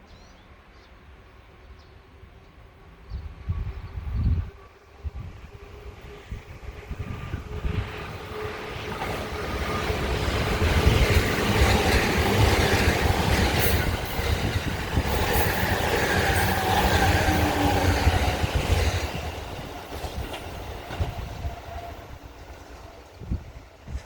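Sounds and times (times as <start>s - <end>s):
electric train wheels on rails: 2.6s - 24.0s.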